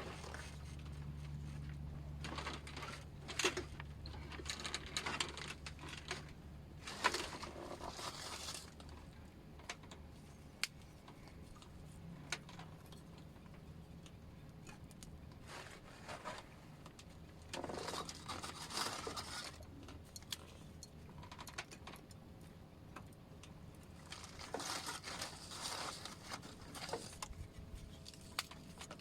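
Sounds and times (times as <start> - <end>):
rustling and crinkling handling: 0.0 - 13.6, 14.6 - 22.0, 23.8 - 29.0.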